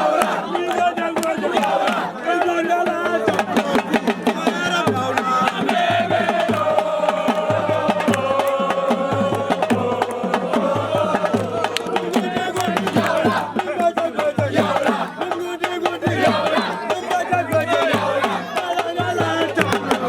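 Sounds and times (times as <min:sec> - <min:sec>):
live drumming: 0:00.0 - 0:20.0.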